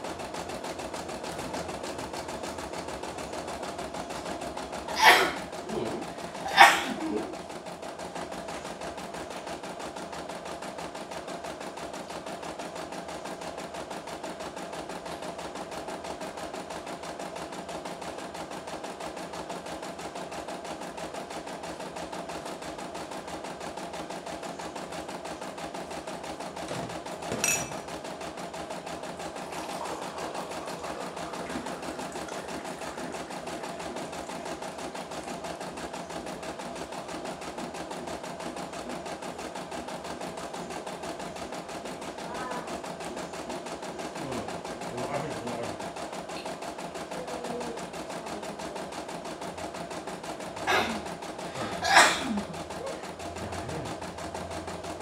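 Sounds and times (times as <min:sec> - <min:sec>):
embroidery machine stitching: 0:00.0 - 0:55.0.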